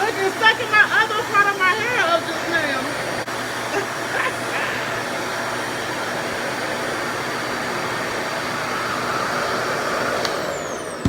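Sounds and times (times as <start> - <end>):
hair dryer motor rushing: 0.0 - 11.0
high motor whine: 0.0 - 11.0.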